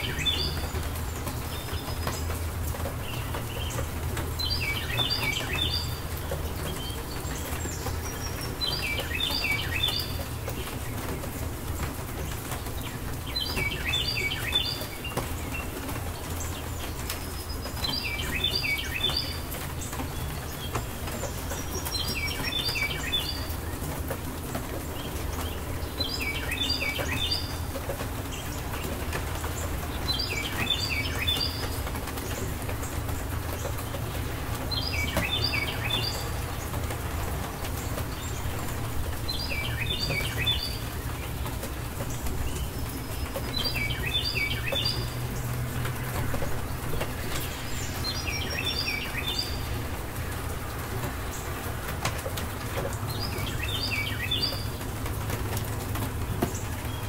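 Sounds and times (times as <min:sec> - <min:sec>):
background hiss and rumble: 0:00.0 - 0:57.0
songbird chirping: 0:00.0 - 0:57.0.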